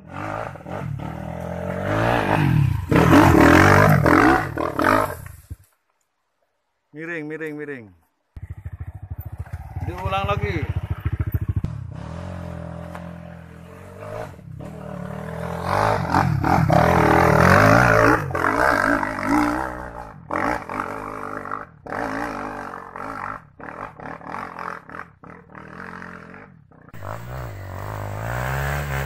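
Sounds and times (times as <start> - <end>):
dirt bike engine revving: 0.0 - 5.5, 8.4 - 29.0.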